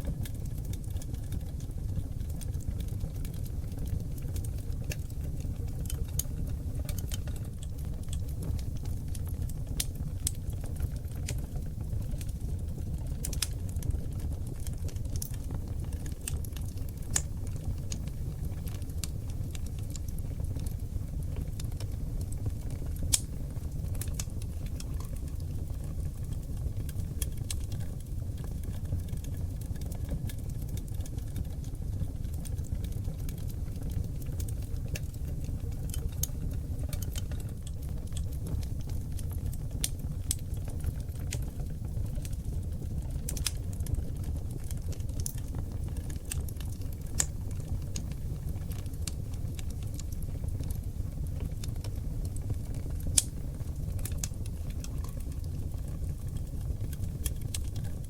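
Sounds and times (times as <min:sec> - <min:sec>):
fire crackles and pops: 0:00.0 - 0:58.0
wood fire rumbling: 0:00.0 - 0:58.0.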